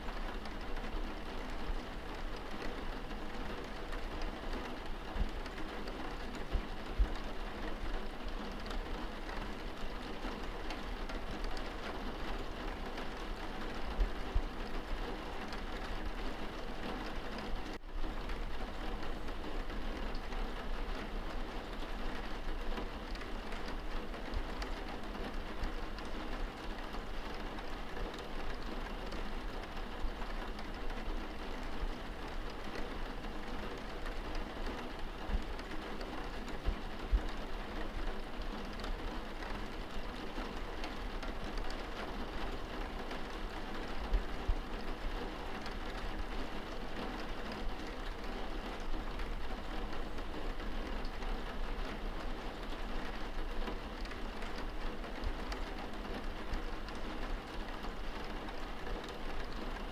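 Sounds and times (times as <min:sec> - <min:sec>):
rain pattering on window glass: 0:00.0 - 0:59.9.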